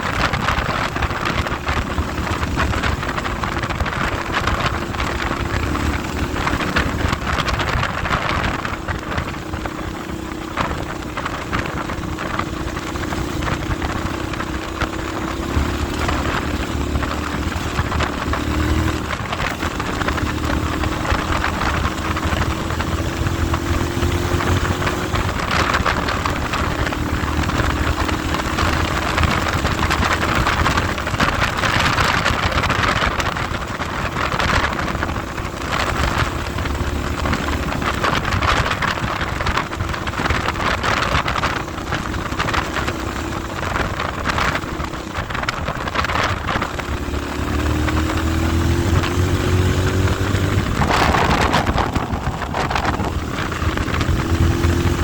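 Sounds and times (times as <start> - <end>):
vehicle engine running: 0.0 - 55.0
wind buffeting microphone: 0.0 - 55.0.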